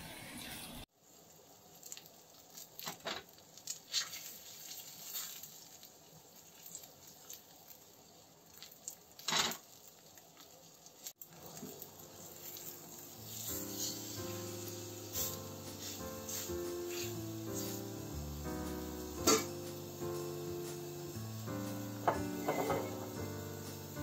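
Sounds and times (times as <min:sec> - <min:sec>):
steak sizzling in a frying pan: 0:01.0 - 0:24.0.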